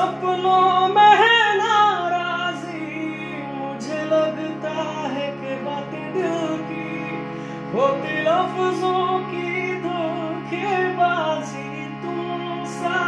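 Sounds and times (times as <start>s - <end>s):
harmonium chords: 0.0s - 13.0s.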